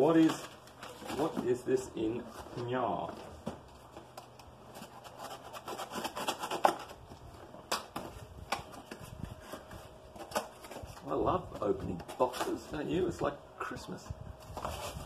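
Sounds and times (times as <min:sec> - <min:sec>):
cardboard flaps rustling: 0:00.0 - 0:12.8, 0:14.4 - 0:15.0.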